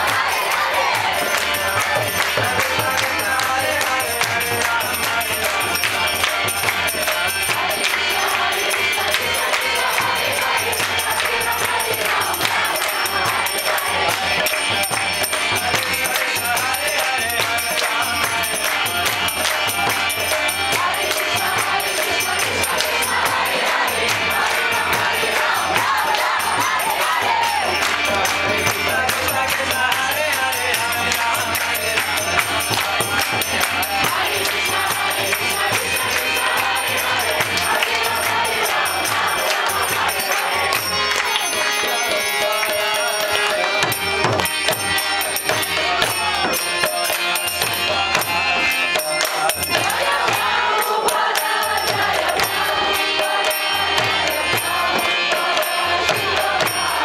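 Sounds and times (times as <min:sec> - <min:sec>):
group singing and chanting: 0:00.0 - 0:57.0
harmonium: 0:00.0 - 0:57.0
metallic jingle of hand percussion: 0:00.0 - 0:57.0.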